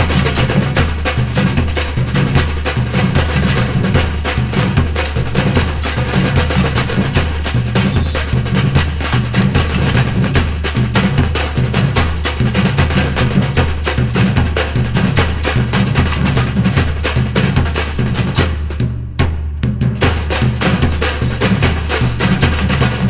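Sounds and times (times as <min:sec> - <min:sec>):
deep bass drums: 0:00.0 - 0:23.0
fast snare and hand drums: 0:00.0 - 0:23.0.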